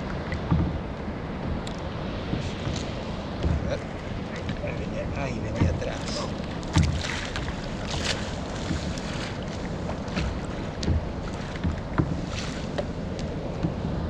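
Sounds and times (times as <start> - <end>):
waves lapping against kayak hull: 0.0 - 14.0
wind on microphone: 0.0 - 14.0.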